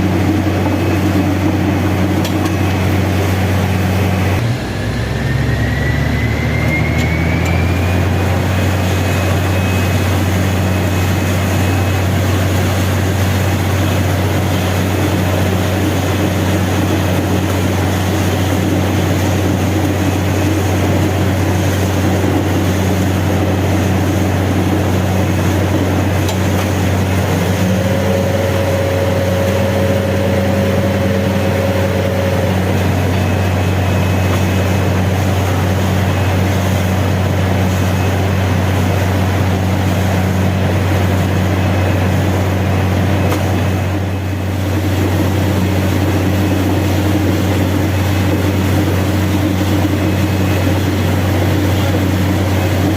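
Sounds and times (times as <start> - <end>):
drilling rig drone: 0.0 - 52.9
high steady tone: 0.0 - 52.9
thin whine: 0.0 - 52.9.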